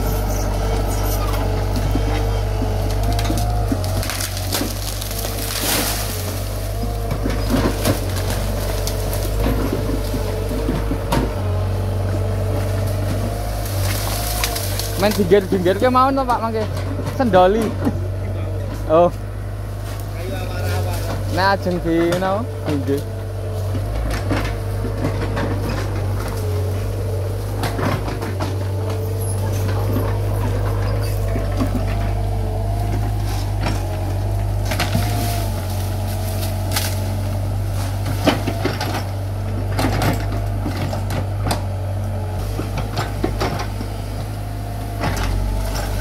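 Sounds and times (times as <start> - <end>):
excavator diesel engine running: 0.0 - 46.0
branches cracking and snapping: 0.5 - 46.0.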